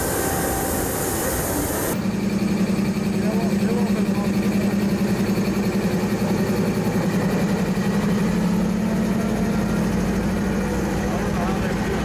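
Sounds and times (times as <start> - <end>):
locomotive diesel engine droning: 0.0 - 12.0.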